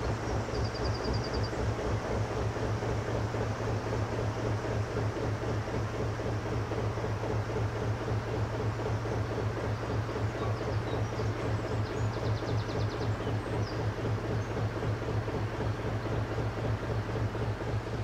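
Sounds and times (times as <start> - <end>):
diesel engine running steadily: 0.0 - 18.0.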